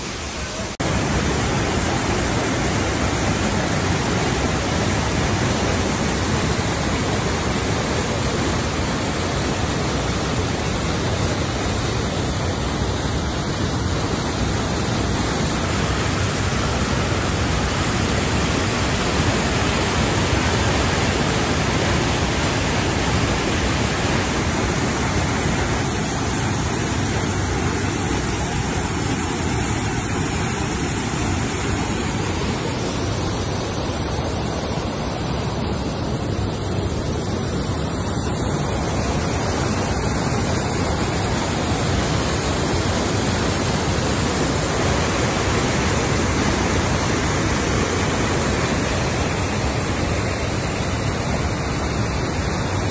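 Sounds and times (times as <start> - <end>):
water rushing through rapids: 0.0 - 52.9.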